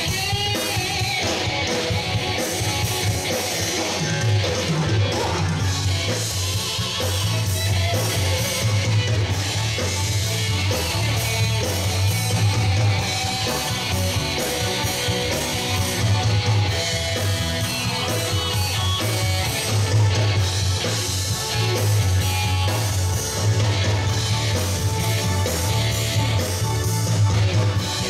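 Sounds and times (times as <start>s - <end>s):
live band playing dance song: 0.0s - 28.0s.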